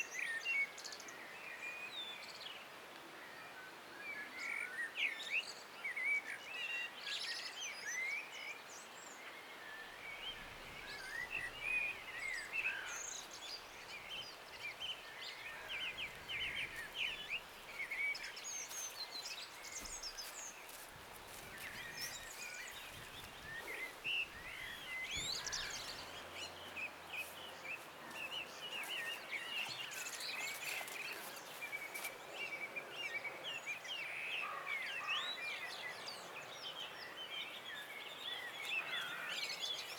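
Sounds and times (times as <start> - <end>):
songbirds chirping and trilling: 4.2 - 39.9.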